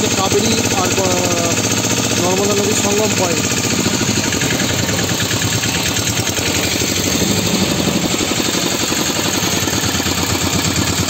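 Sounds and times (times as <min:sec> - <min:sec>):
motorboat engine chugging: 0:00.0 - 0:11.0.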